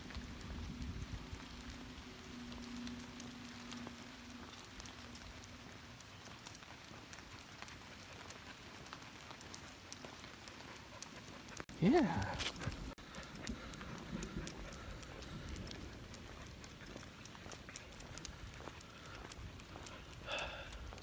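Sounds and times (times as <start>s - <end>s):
rain on leaves: 0.0s - 21.0s.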